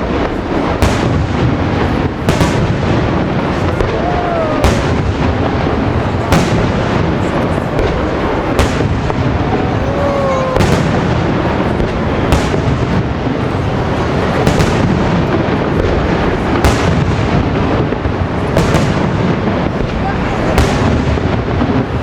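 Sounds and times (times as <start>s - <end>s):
fireworks rumble of bursts: 0.0s - 22.0s
fireworks sharp bangs: 0.0s - 22.0s.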